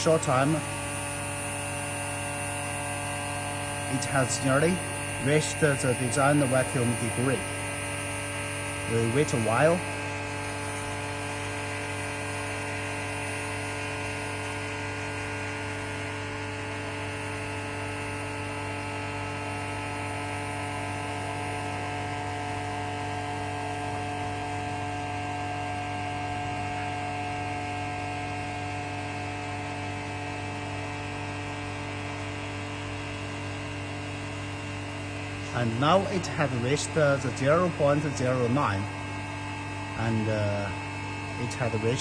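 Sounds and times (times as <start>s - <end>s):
vacuum pump humming: 0.0s - 42.0s.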